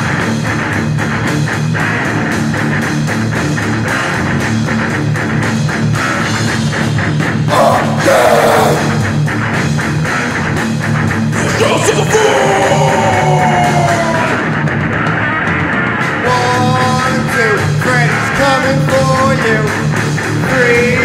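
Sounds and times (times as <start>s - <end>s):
heavy rock guitars and drums: 0.0s - 21.0s.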